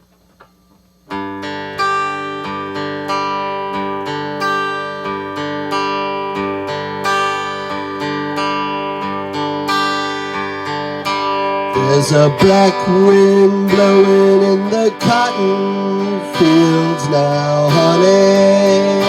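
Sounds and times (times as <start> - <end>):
acoustic guitar strumming: 1.1 - 19.0.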